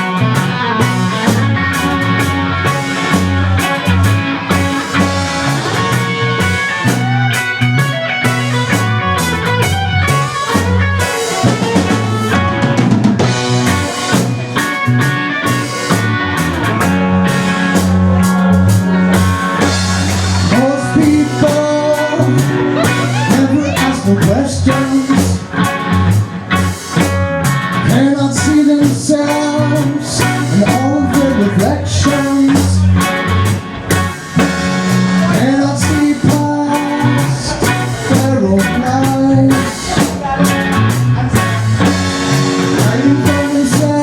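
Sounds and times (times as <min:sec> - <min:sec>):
bass guitar: 0:00.0 - 0:44.0
drum kit: 0:00.0 - 0:44.0
electric guitar: 0:00.0 - 0:44.0.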